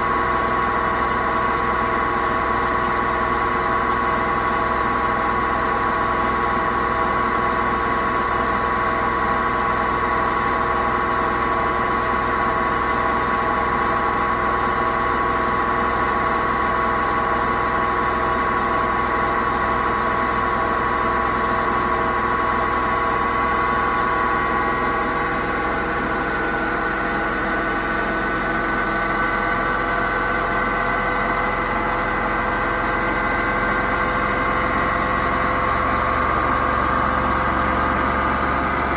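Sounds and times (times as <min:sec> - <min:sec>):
washing machine spinning drone: 0:00.0 - 0:38.9.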